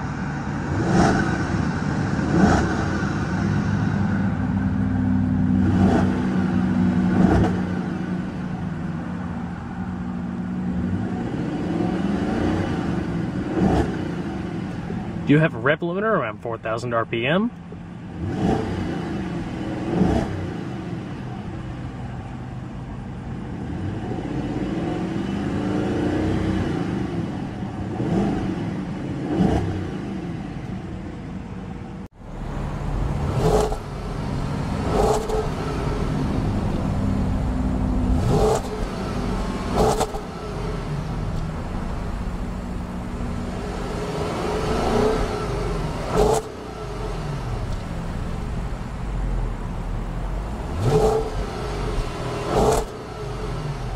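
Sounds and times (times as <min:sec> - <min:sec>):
car engine revving: 0:00.0 - 0:53.9
exhaust idling with throttle blips: 0:00.0 - 0:53.9.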